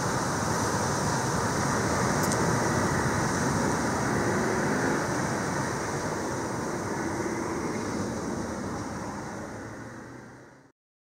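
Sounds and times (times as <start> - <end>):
rushing outdoor background noise: 0.0 - 10.7.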